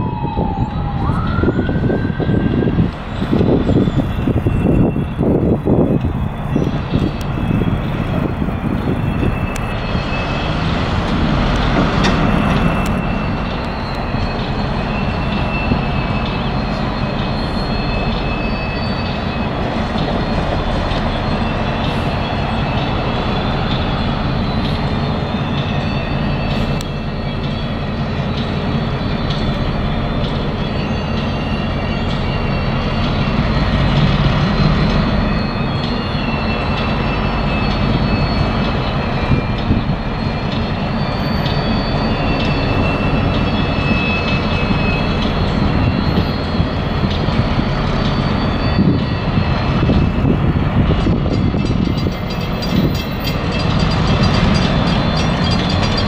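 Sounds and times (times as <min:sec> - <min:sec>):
diesel locomotive engine: 0:00.0 - 0:56.0
high wheel squeal: 0:00.1 - 0:56.0.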